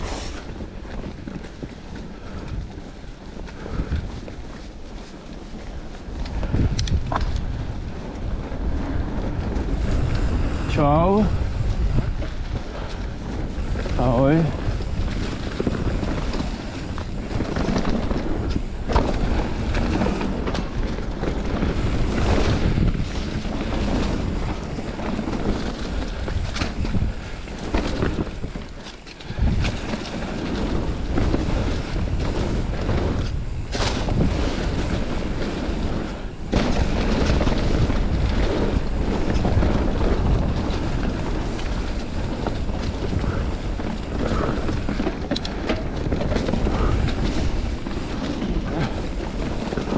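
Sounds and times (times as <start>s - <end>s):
bike knocking and rattling: 0.0s - 49.9s
tyres rolling over dirt and leaves: 0.0s - 49.9s
wind on microphone: 0.0s - 49.9s.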